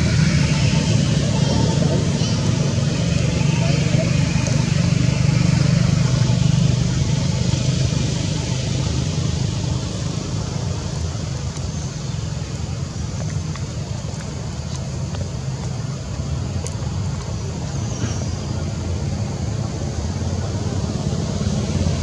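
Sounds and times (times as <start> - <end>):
motor running rumble: 0.0 - 22.0.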